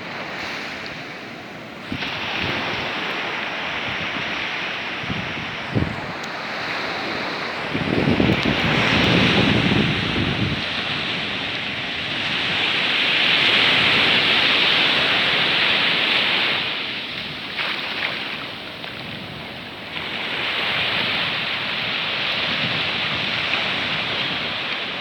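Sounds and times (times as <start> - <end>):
sea surf rushing: 0.0 - 25.0.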